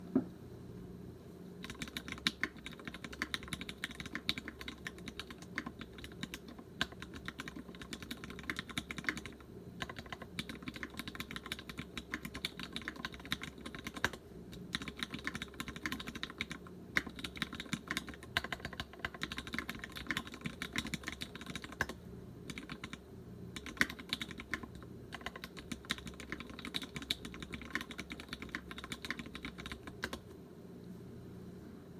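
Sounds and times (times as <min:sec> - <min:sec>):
fast typing on mechanical keyboard: 0:01.6 - 0:30.3.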